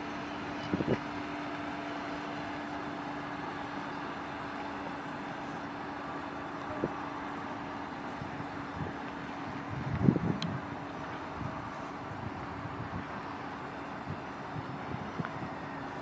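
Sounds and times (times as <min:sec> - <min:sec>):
car engine idling: 0:00.0 - 0:16.0
outdoor background noise: 0:00.0 - 0:16.0.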